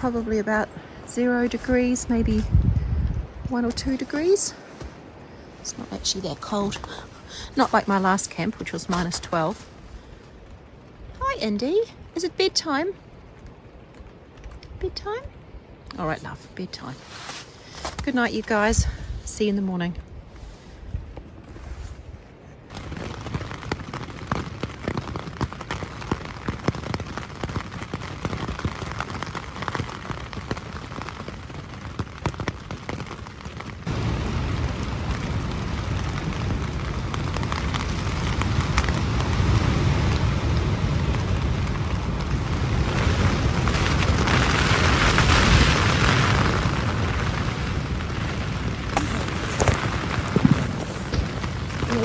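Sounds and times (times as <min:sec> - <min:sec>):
rain falling on a tent: 0:00.0 - 0:52.0.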